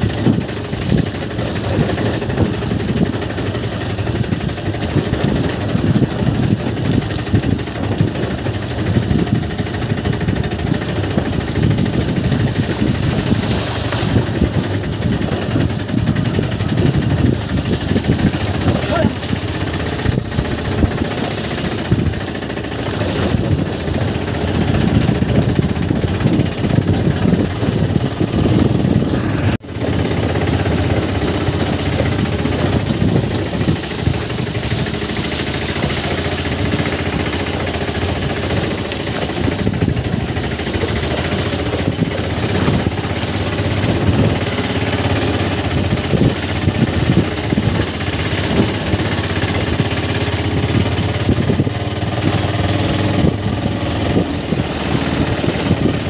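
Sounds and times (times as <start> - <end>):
jolting and rattling over bumps: 0.0 - 56.0
motorcycle engine running: 0.0 - 56.0.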